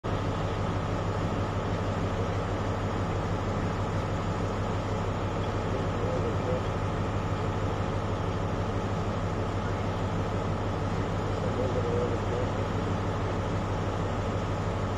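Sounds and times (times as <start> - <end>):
diesel train engine humming: 0.0 - 14.9.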